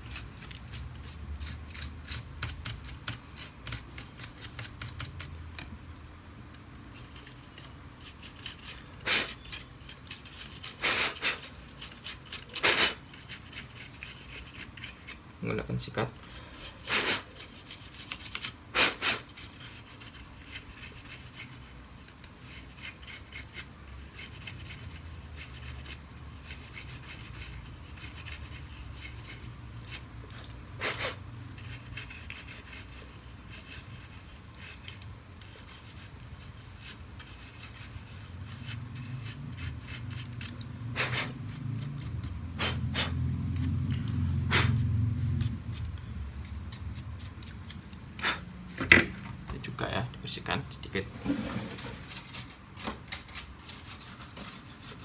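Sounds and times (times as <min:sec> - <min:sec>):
brush scrubbing: 0:06.9 - 0:15.8, 0:16.4 - 0:30.2, 0:30.8 - 0:48.4, 0:51.2 - 0:55.0.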